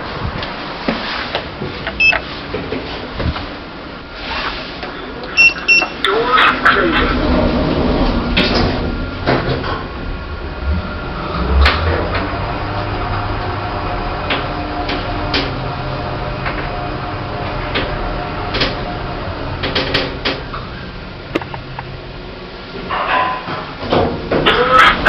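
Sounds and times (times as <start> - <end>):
lift motor hum and whine: 0.0 - 25.0.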